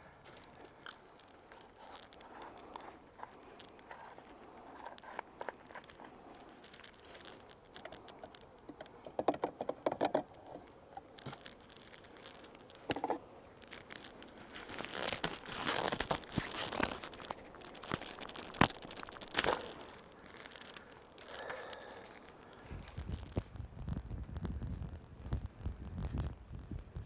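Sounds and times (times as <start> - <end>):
crinkling and scraping: 0.0 - 27.0.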